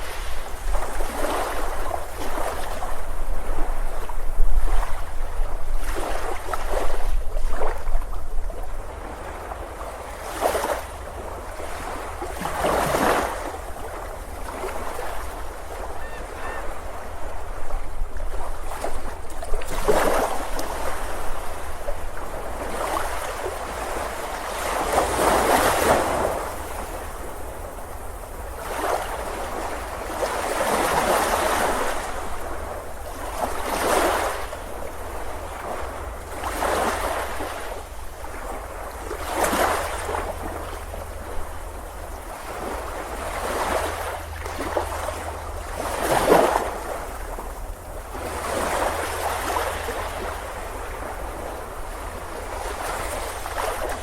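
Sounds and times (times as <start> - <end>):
waves breaking on beach: 0.0 - 54.0.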